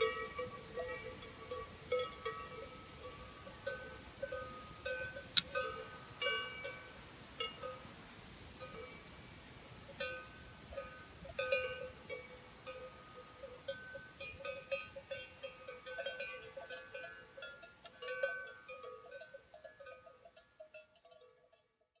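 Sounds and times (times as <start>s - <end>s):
cowbells clanking: 0.0s - 7.9s, 8.6s - 9.2s, 9.8s - 22.0s.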